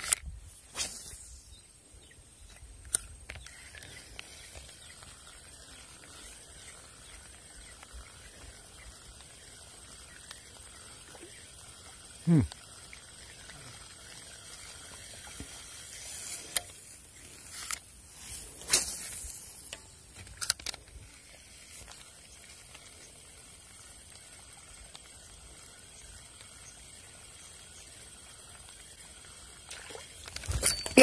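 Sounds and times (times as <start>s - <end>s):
fishing reel clicks and swishes: 0.0s - 1.5s, 2.4s - 11.9s, 12.8s - 29.4s, 30.2s - 31.0s
faint outdoor hiss: 0.0s - 31.0s.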